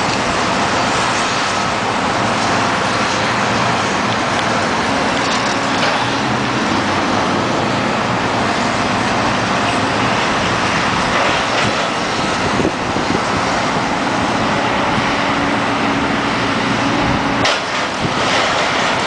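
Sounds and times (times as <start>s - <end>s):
heavy diesel machinery running: 0.0s - 19.0s.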